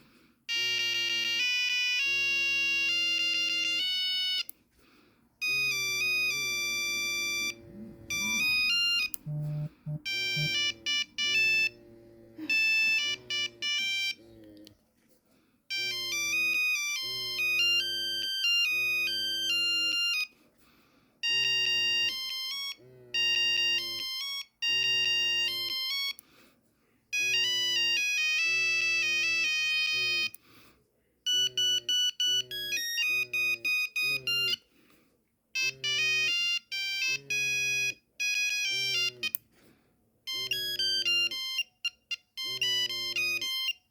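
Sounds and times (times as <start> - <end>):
monophonic phone ringtone: 0.5 - 4.5, 5.4 - 11.8, 12.4 - 14.2, 15.7 - 20.3, 21.2 - 26.2, 27.1 - 30.4, 31.3 - 34.7, 35.6 - 39.4, 40.3 - 43.9.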